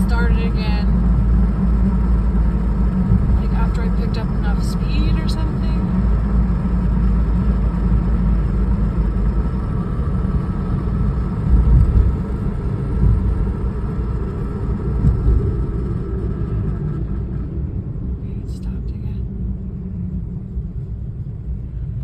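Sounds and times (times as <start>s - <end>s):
car driving low rumble: 0.0s - 22.0s.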